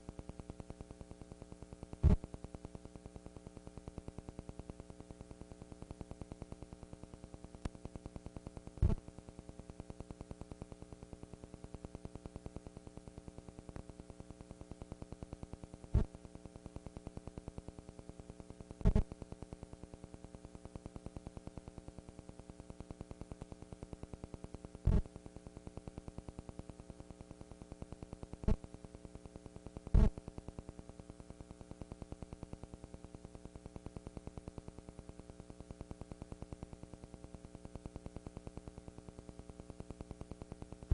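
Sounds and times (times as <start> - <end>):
electrical hum and buzz: 0.0 - 40.9.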